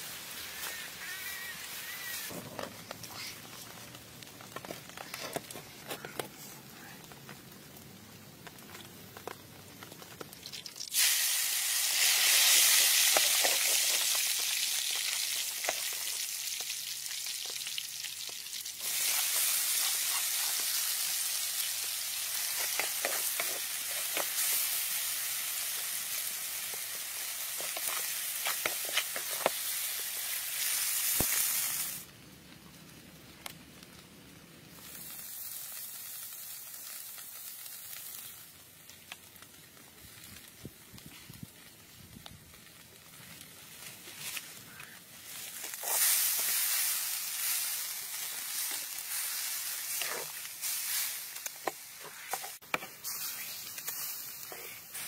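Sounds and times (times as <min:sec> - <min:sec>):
chilies sizzling in hot oil: 0:00.0 - 0:02.3, 0:07.0 - 0:32.1, 0:34.6 - 0:55.0.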